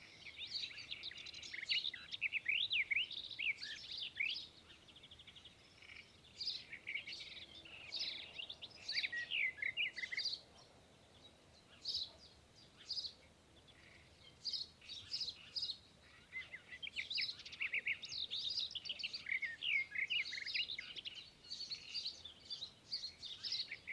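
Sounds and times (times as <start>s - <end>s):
birdsong through tv speaker: 0.0s - 23.9s.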